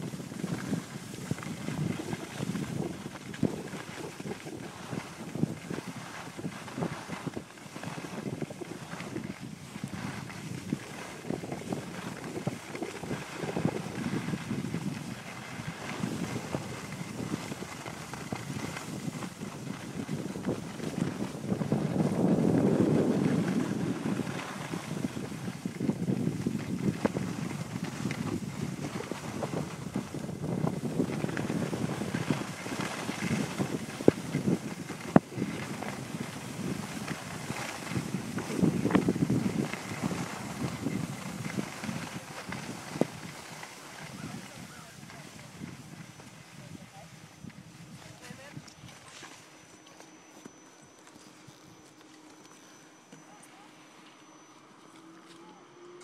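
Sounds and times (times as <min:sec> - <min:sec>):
wind buffeting microphone: 0:00.0 - 0:49.3
skis scraping over snow: 0:00.0 - 0:56.0.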